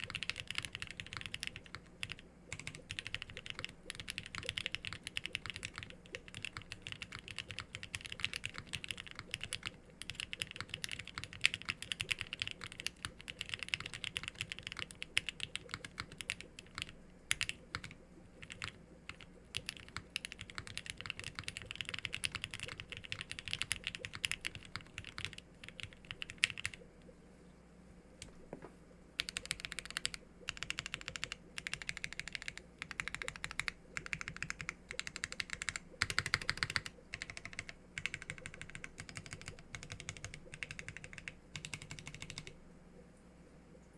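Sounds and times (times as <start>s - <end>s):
mechanical keyboard typing: 0.0s - 26.8s, 29.2s - 42.6s.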